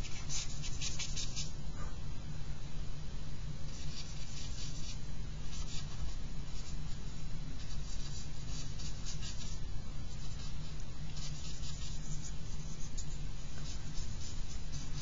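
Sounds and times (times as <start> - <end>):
charcoal scratching on paper: 0.0 - 1.6, 3.7 - 7.0, 7.6 - 15.0.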